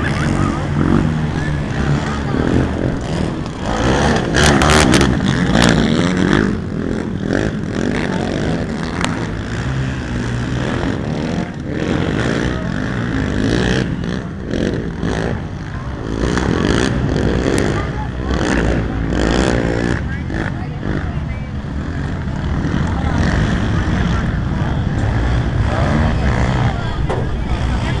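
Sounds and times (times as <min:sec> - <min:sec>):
quad engines revving: 0:00.0 - 0:28.0.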